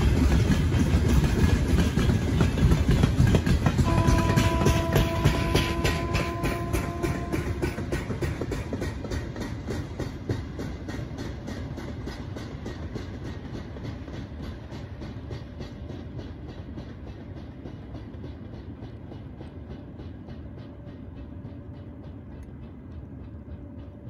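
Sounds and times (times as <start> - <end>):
rapid rhythmic clicking: 0.0 - 24.0.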